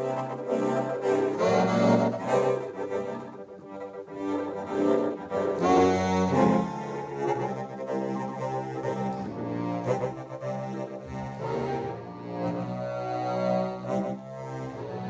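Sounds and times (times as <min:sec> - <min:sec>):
harmonica playing low notes: 0:00.0 - 0:15.0.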